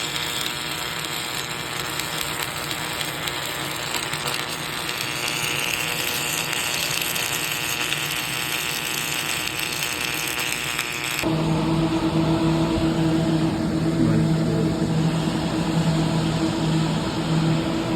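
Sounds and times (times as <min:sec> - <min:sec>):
welding machine mechanical noise: 0:00.0 - 0:17.9
electrical hum: 0:03.4 - 0:17.9.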